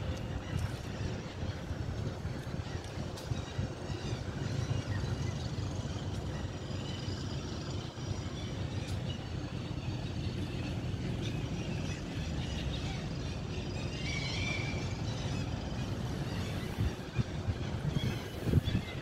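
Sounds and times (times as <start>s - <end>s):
gulls calling: 0.0s - 19.0s.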